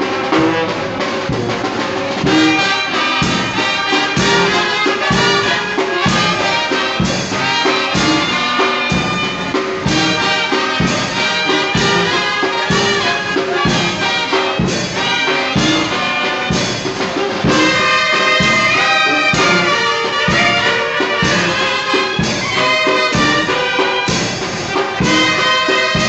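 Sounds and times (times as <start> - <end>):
wind band playing: 0.0 - 26.0.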